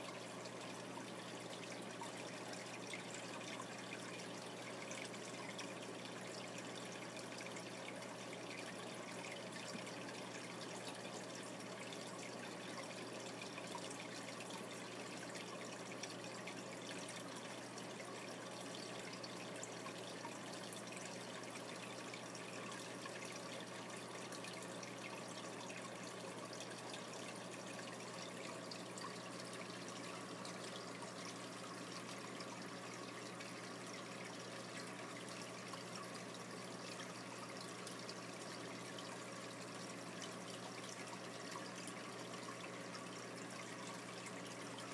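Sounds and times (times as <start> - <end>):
aquarium water trickling: 0.0 - 44.9.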